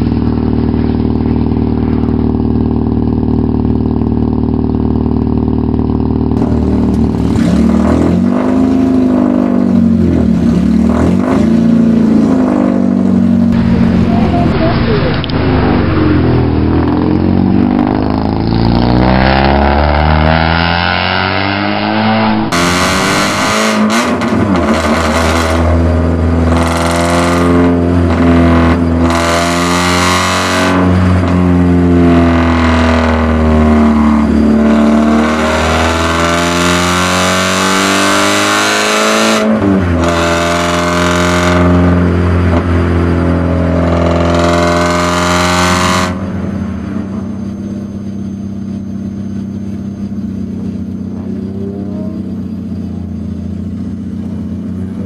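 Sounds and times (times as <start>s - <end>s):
car engine revving trackside: 0.0s - 55.0s
race car engine revving: 0.0s - 55.0s.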